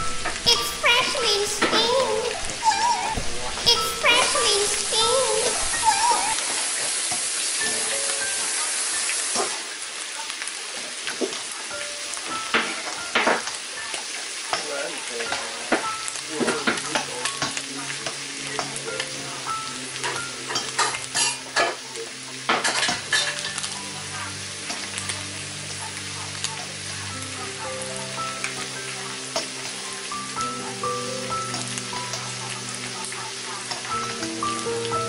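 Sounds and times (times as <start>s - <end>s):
food sizzling in a frying pan: 0.0s - 35.0s.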